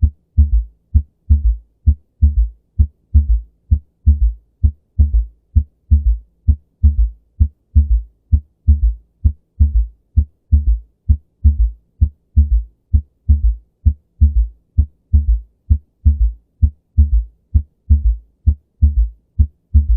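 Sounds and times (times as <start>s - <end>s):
galloping heartbeat thuds: 0.0s - 19.9s.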